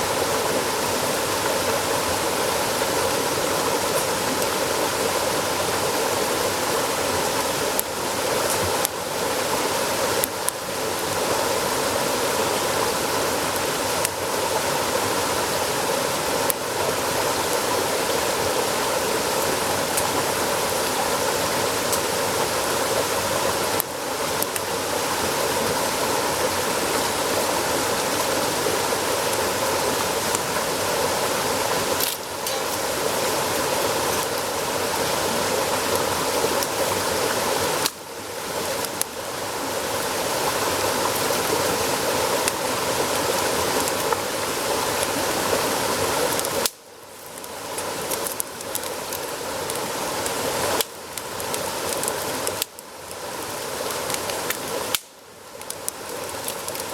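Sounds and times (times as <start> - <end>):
flowing water rushing: 0.0 - 56.9.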